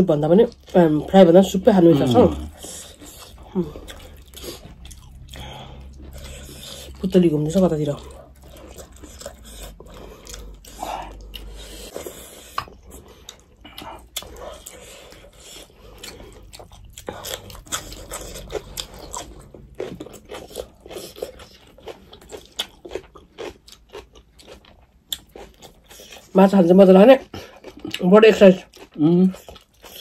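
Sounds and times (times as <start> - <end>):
chewing and crunching: 0.0 - 30.0.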